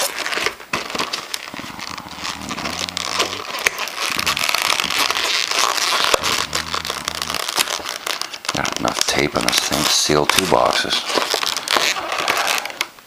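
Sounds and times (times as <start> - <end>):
packing tape peeled and torn: 0.0 - 12.9.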